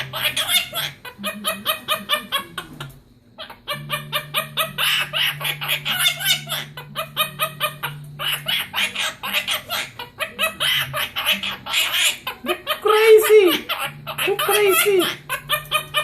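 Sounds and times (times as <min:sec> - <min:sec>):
parrot chattering: 0:00.0 - 0:16.0.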